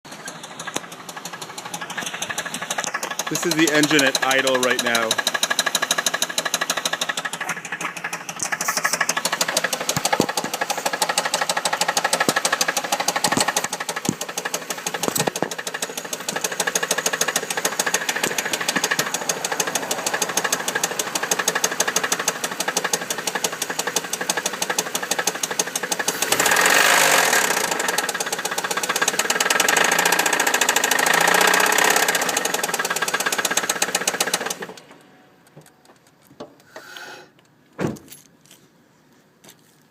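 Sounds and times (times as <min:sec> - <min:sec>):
car engine idling: 0:00.0 - 0:36.8
rapid engine knock: 0:00.1 - 0:34.8.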